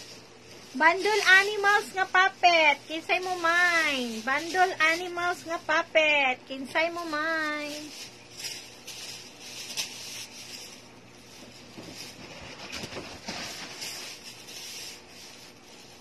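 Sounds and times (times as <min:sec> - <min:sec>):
plush toys rustling: 0:00.0 - 0:16.0.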